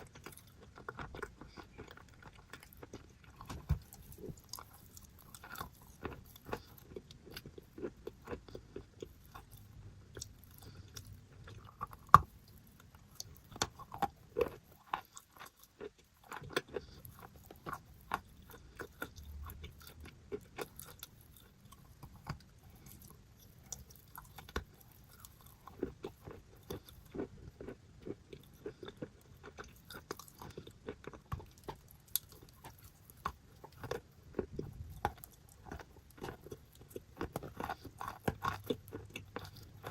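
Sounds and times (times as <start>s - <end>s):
person chewing chalk crunching: 0.0s - 39.9s.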